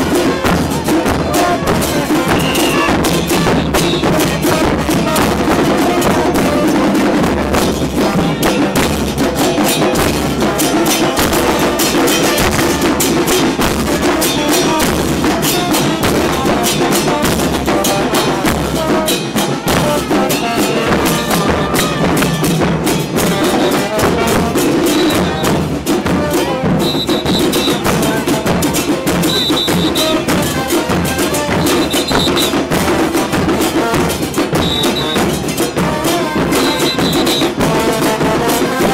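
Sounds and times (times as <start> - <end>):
percussion band playing: 0.0 - 38.9.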